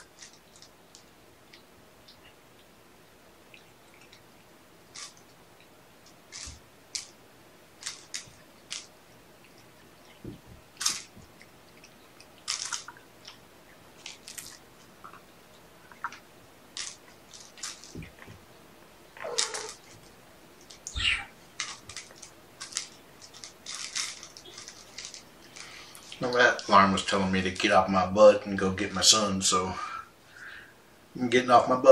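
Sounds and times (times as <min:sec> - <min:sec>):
kittens rustling and scuffling: 0:00.0 - 0:27.2.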